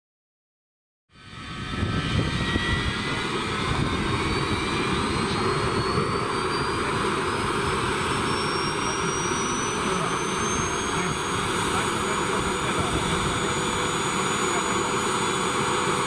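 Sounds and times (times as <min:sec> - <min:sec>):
turbine whine rising: 0:01.1 - 0:16.0.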